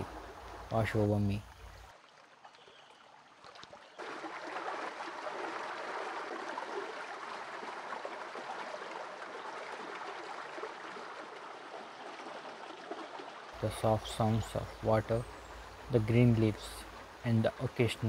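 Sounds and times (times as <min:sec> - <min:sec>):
stream flowing over stones: 0:00.0 - 0:18.0.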